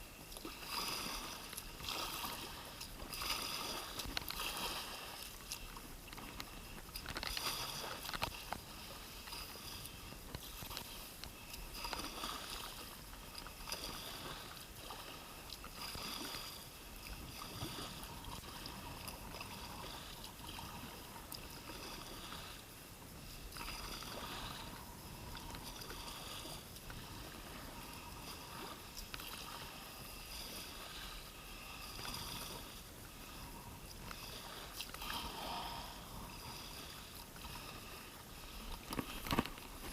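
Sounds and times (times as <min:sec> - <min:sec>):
paddle strokes in water: 0:00.0 - 0:39.9
watery wash: 0:00.0 - 0:39.9.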